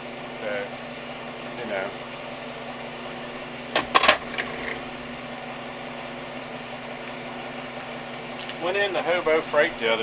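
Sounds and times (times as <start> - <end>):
air compressor humming: 0.0 - 10.0.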